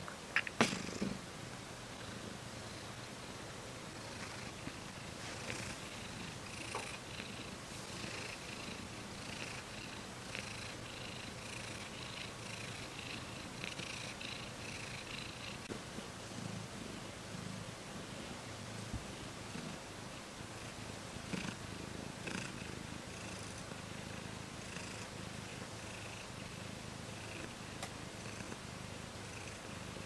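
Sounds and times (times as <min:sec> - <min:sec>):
cat purring: 0:00.4 - 0:01.2, 0:01.9 - 0:30.0.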